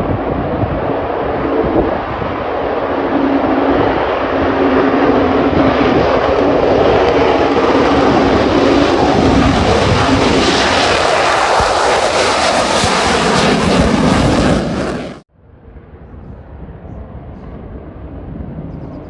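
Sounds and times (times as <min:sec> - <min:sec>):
jet engine droning: 0:00.0 - 0:19.0.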